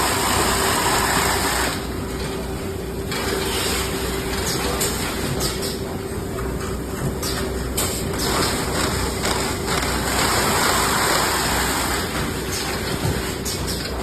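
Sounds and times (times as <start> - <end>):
tape sealing machine motor hum: 0.0 - 5.9, 7.2 - 13.8.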